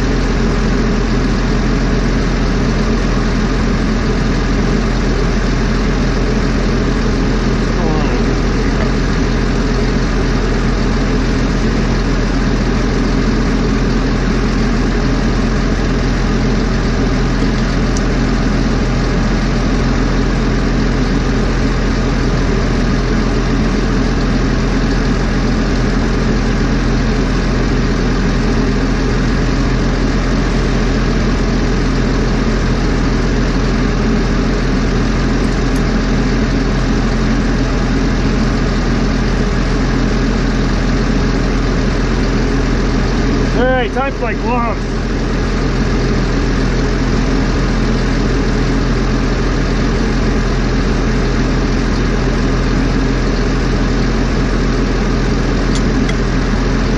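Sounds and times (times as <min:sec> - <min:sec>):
large engine idling: 0:00.0 - 0:56.9.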